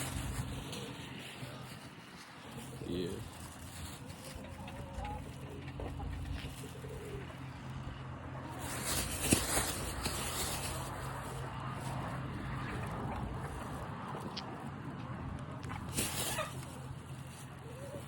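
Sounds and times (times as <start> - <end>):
wind rumbling on microphone: 0.0 - 17.6.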